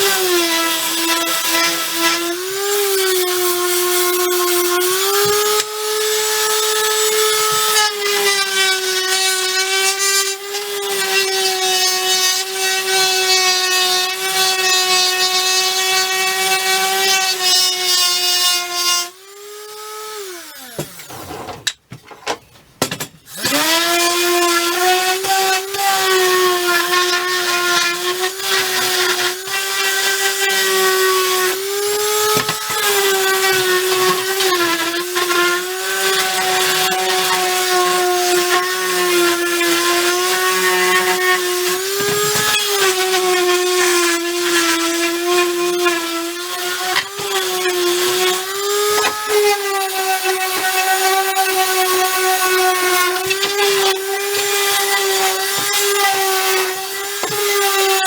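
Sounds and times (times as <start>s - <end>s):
power sander on wood: 0.0s - 21.7s, 23.3s - 58.0s.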